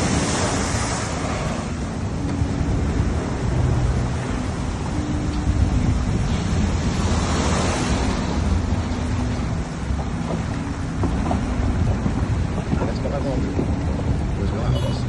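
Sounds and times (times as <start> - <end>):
surf breaking on shore: 0.0 - 14.8
wind buffeting microphone: 0.0 - 15.0.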